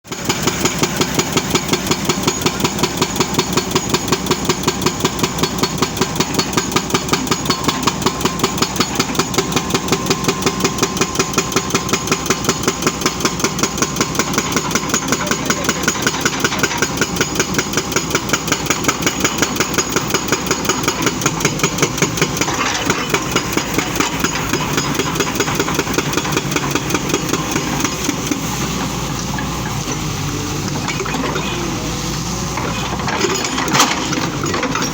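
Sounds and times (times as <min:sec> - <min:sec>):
excavator diesel engine pulsing: 0:00.1 - 0:34.9.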